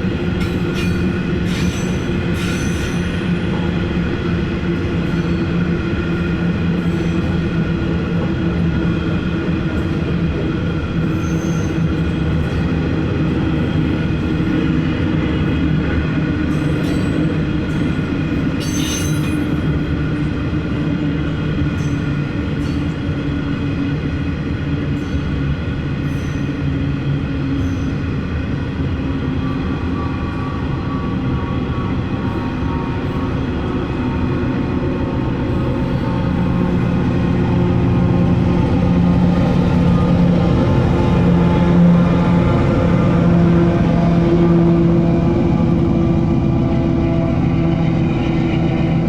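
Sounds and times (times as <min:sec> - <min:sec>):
train wagons rolling with whine: 0:00.0 - 0:49.0.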